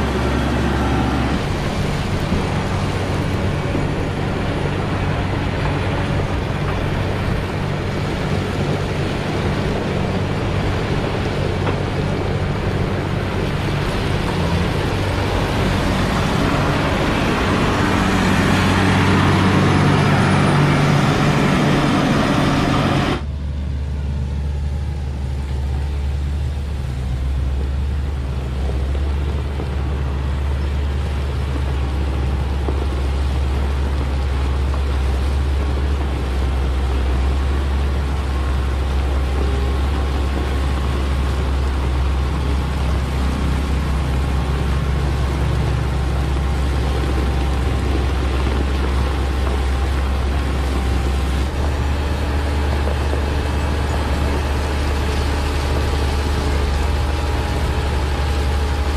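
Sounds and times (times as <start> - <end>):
diesel engine droning: 0.0 - 58.9.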